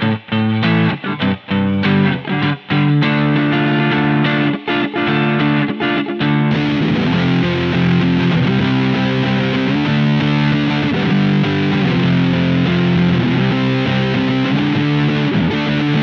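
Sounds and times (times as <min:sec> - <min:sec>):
fuzz electric guitar riff: 0:00.0 - 0:16.0.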